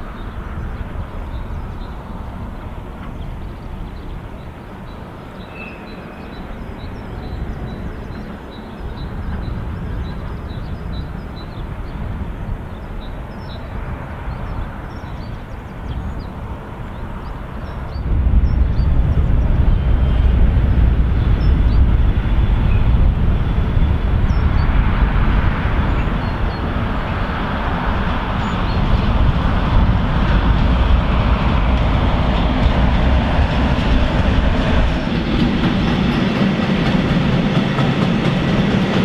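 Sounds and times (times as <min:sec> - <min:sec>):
freight train rumble: 0:00.0 - 0:39.0.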